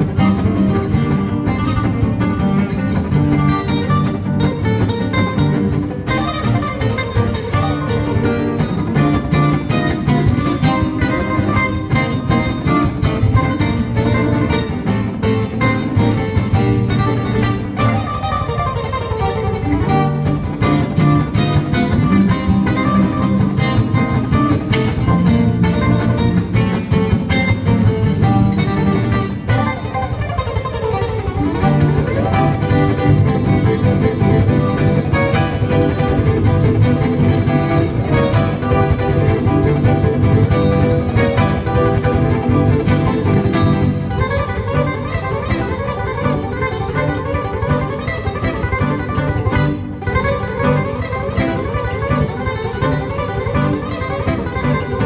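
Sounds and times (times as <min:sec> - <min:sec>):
acoustic guitars playing: 0:00.0 - 0:55.0.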